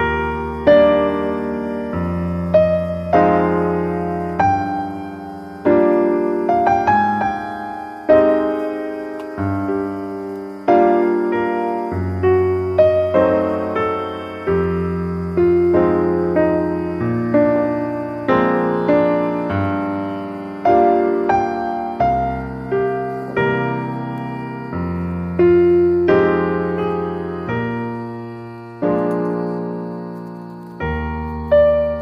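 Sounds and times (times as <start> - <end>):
slow piano chords: 0.0 - 32.0.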